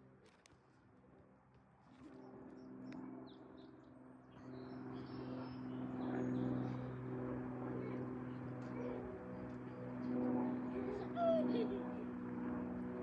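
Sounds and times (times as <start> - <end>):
light aircraft engine and propeller: 0.0 - 13.0.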